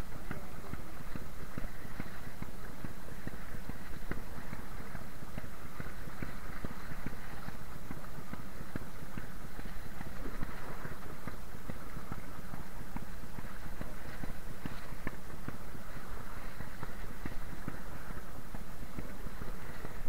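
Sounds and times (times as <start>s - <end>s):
sea: 0.0s - 20.0s
wind: 0.0s - 20.0s.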